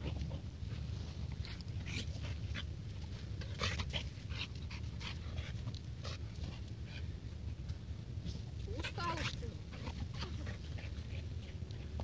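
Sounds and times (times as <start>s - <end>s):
dog panting: 0.0s - 7.5s, 8.6s - 12.0s.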